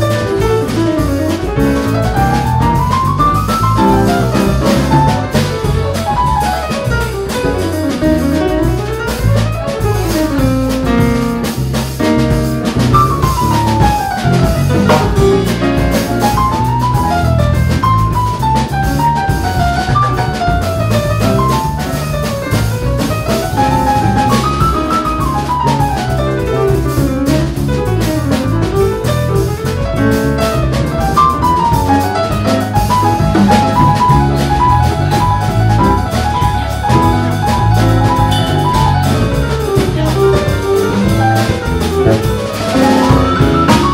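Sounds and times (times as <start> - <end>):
drum kit: 0.0 - 43.9
piano runs: 0.0 - 43.9
walking bass: 0.0 - 43.9.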